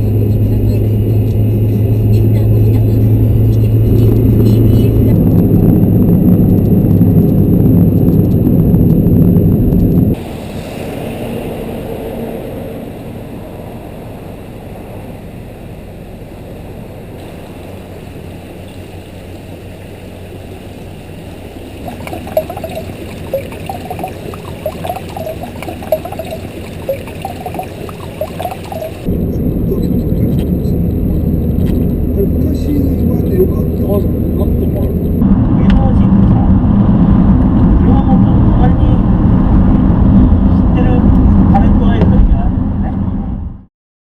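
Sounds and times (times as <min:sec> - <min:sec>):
car cabin engine noise: 0:00.0 - 0:11.6, 0:13.9 - 0:43.6.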